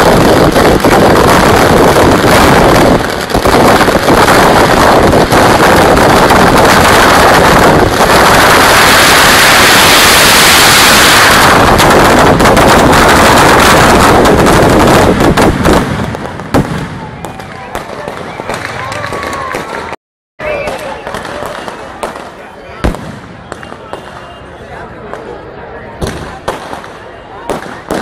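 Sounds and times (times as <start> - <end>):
fireworks explosions: 0.0 - 28.0.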